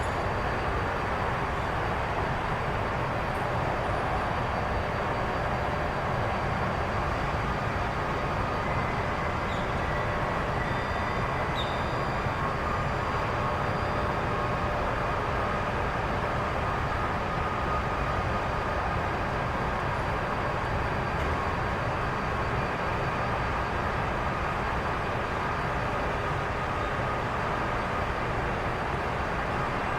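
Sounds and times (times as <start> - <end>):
jet engine whine: 0.0 - 29.9.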